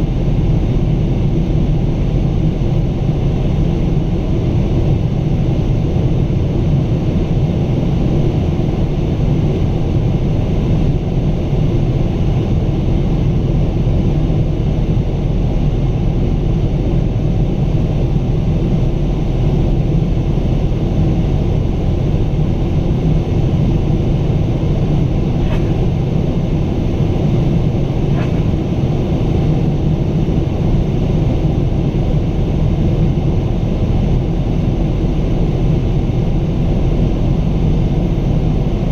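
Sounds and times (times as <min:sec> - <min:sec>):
jet engine drone in cabin: 0:00.0 - 0:38.9.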